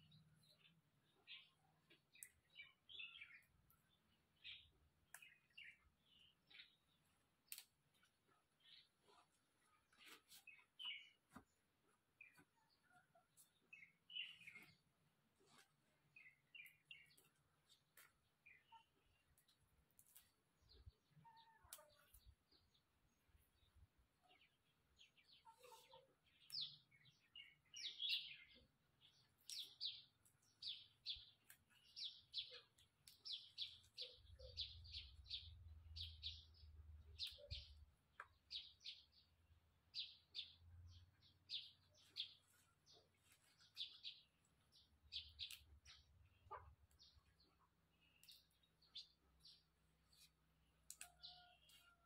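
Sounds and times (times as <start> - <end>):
small bird chirping: 0.0 - 11.5, 12.2 - 14.8, 15.4 - 52.0.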